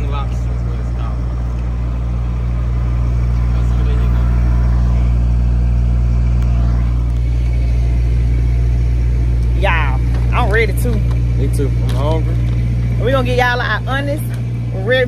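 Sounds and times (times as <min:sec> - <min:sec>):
generator humming: 0:00.0 - 0:15.0.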